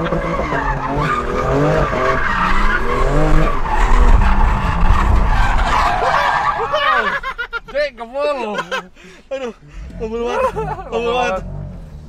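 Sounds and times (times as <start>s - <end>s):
car engine revving: 0.0s - 7.5s, 9.6s - 12.0s
tyres squealing: 0.0s - 11.6s.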